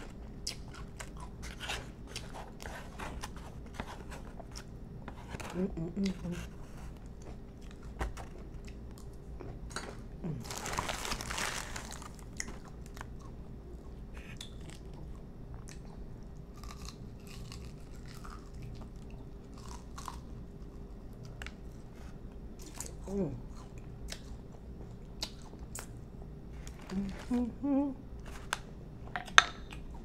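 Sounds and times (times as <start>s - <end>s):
chewing and crunching food: 0.0s - 27.4s.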